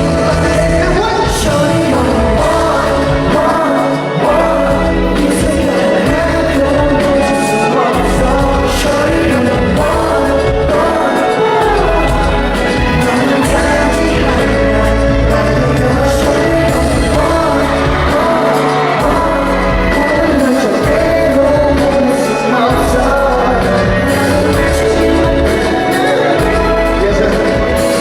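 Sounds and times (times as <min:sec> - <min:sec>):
loud amplified pop music: 0:00.0 - 0:28.0
man singing: 0:00.0 - 0:28.0.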